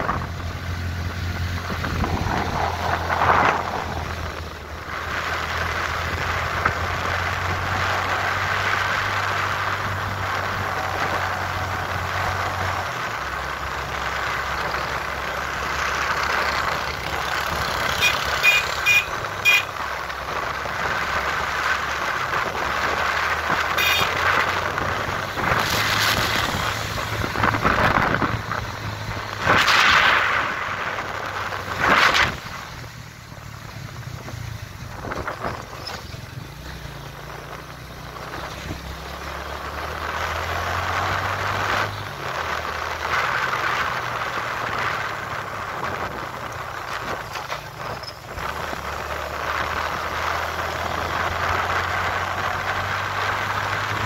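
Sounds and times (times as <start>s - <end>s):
motorcycle engines running: 0.0s - 54.0s
wind noise on microphone: 0.0s - 54.0s.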